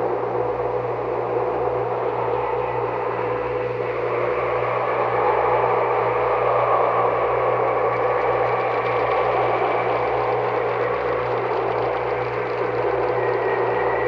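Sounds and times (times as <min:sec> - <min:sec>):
low droning tones: 0:00.0 - 0:14.0.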